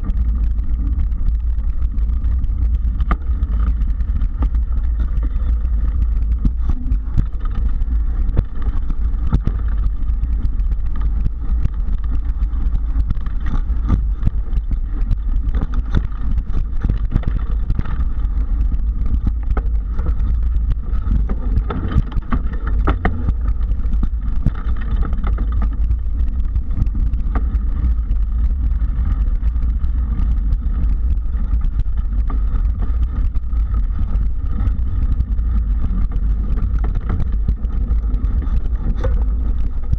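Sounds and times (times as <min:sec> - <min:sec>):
bike rattling clicks and knocks: 0:00.0 - 0:39.9
tyre and wind rumble: 0:00.0 - 0:39.9.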